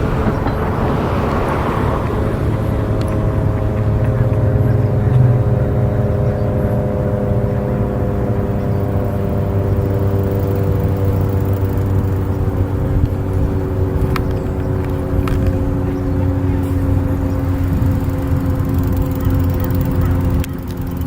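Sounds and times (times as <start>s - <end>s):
motor drone sinking in pitch: 0.0s - 21.0s.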